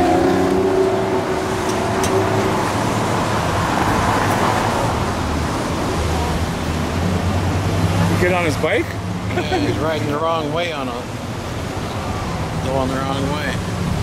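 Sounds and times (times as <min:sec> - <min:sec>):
cars passing close by: 0:00.0 - 0:14.0.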